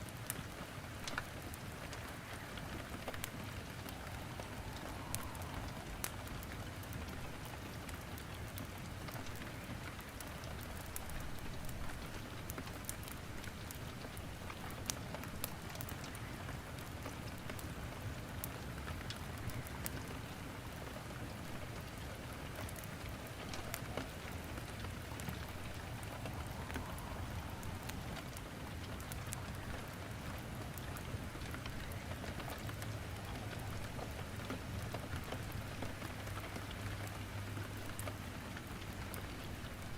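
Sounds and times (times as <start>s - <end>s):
fire crackling: 0.0s - 39.9s
rain falling: 0.0s - 39.9s.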